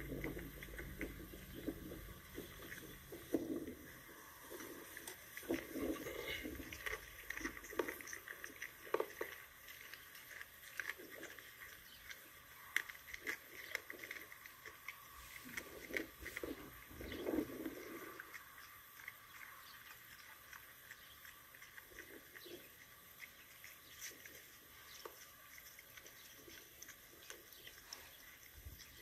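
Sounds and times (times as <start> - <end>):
dog chewing with crunches: 0.0 - 29.0.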